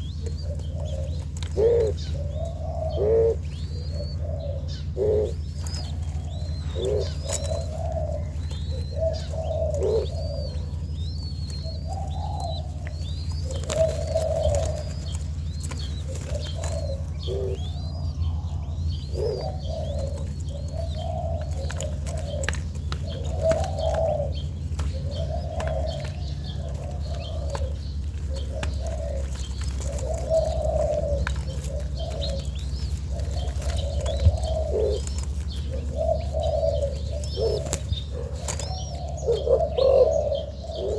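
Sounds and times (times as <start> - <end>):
dove cooing: 0.0 - 40.9
small birds chirping: 0.0 - 40.9
steady low hum: 0.0 - 40.9.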